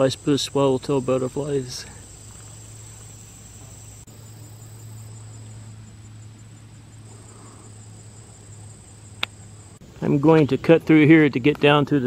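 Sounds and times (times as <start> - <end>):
low steady hum: 0.0 - 11.4
insects buzzing and trilling: 0.0 - 11.9.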